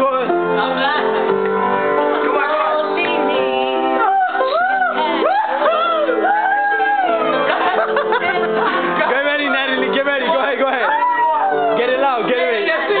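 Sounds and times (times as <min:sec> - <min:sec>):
held backing chords: 0:00.0 - 0:13.0.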